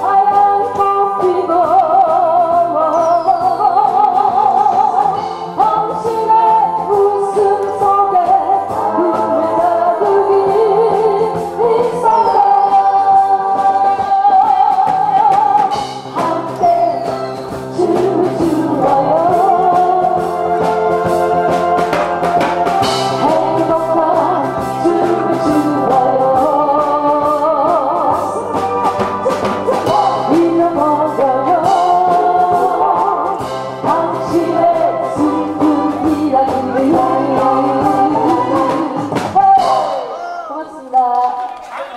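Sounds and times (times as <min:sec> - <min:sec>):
instrumental accompaniment: 0:00.0 - 0:40.7
woman singing with vibrato: 0:00.0 - 0:41.6.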